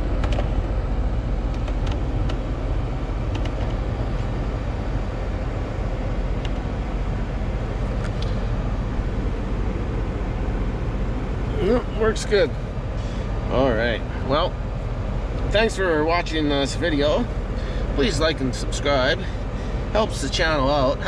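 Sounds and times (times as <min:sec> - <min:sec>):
ventilation fan blowing air: 0:00.0 - 0:21.0.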